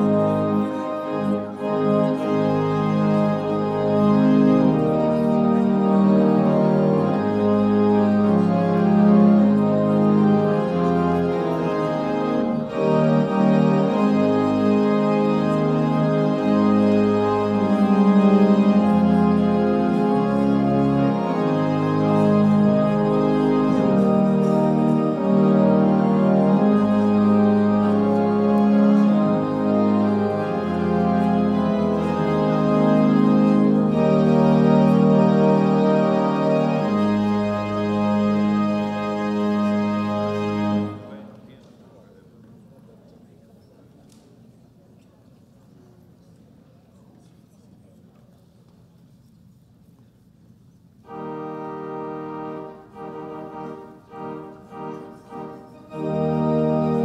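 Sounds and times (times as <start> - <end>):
organ chords: 0.0 - 41.4, 51.0 - 57.0.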